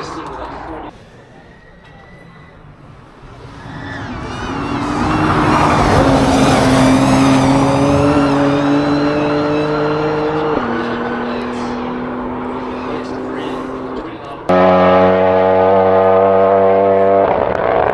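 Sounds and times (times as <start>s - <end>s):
race car engine at high revs: 2.8s - 17.9s.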